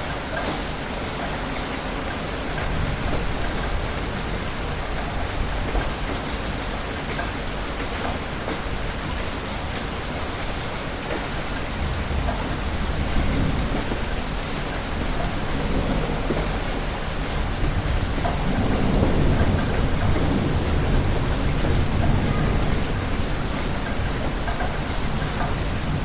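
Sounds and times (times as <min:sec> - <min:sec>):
steady rain falling: 0:00.0 - 0:26.0
rolling thunder: 0:02.4 - 0:10.7, 0:11.3 - 0:26.0.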